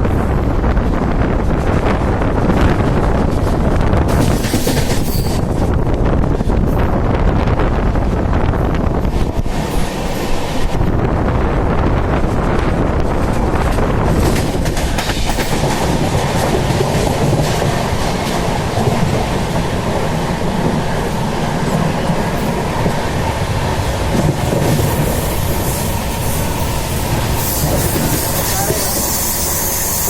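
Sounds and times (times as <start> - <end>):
train wheels clattering on rails: 0.0 - 30.0.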